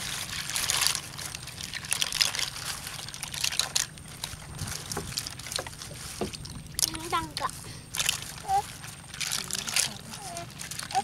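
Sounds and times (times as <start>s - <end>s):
water sloshing in plastic basin: 0.0s - 11.0s.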